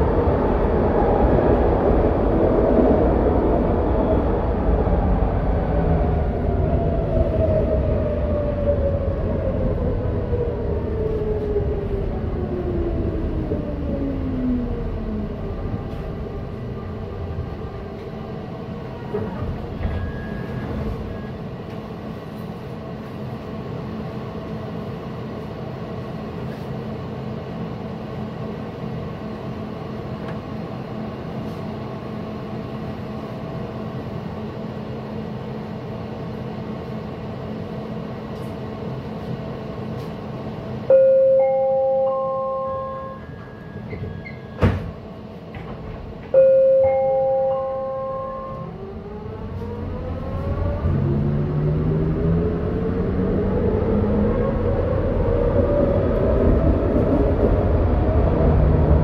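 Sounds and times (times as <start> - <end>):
train car humming: 0.0 - 59.0.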